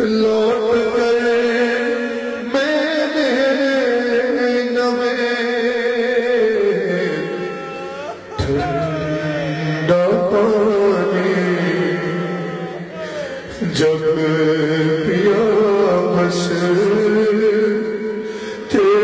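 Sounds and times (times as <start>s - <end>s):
man singing a lament: 0.0s - 19.0s.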